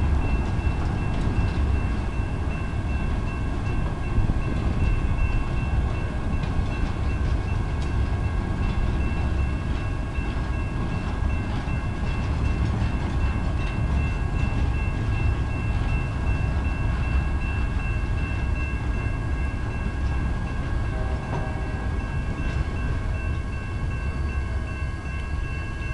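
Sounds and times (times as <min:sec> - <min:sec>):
train cars rumbling past: 0:00.0 - 0:25.9.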